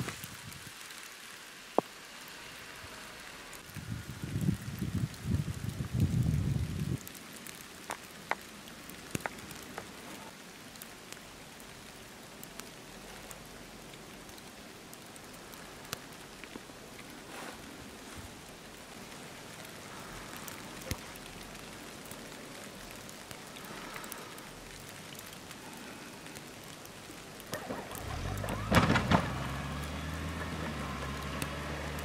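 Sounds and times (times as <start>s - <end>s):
light ticks of snow: 0.0s - 32.0s
snowfall hiss: 0.0s - 32.0s.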